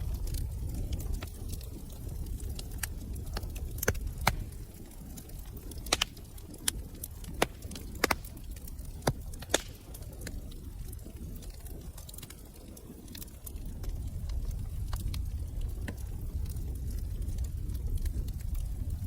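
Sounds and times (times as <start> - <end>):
fire pops and snaps: 0.0 - 19.0
low rumble of burning fire: 0.0 - 19.0
wood fire crackling: 0.0 - 19.0.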